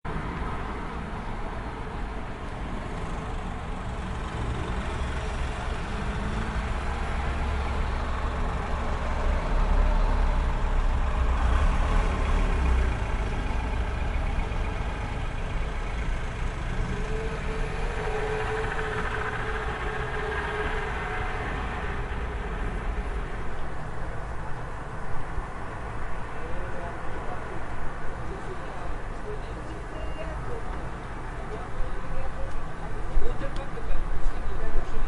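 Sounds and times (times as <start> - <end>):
heavy vehicle engine rumble: 0.1 - 35.0
passing vehicles: 0.1 - 35.0.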